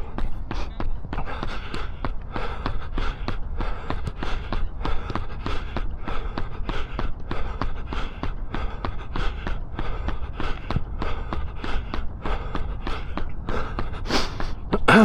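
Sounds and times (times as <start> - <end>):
hard breathing: 0.0 - 15.0
running footsteps on path: 0.0 - 15.0
steady low rumble: 0.0 - 15.0.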